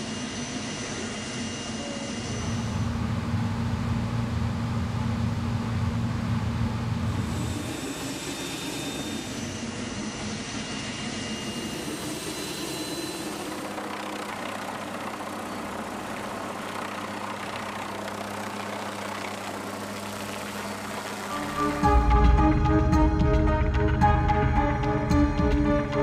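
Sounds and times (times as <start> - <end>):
engine running steadily: 2.2 - 10.2, 11.0 - 26.0.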